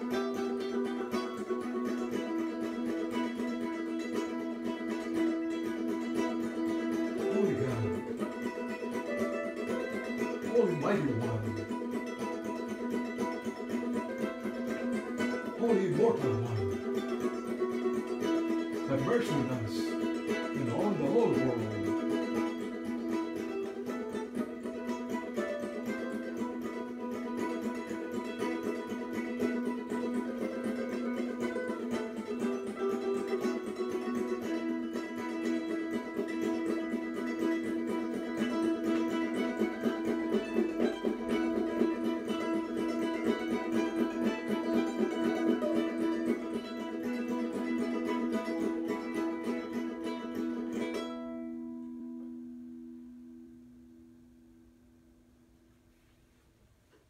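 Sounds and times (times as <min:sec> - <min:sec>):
plucked string instrument music: 0:00.0 - 0:57.0.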